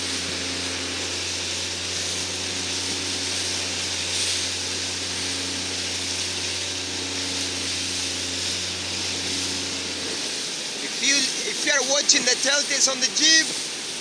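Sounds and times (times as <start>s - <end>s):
motorboat engine running: 0.0s - 14.0s
wind hiss: 0.0s - 14.0s
rushing water: 0.1s - 14.0s.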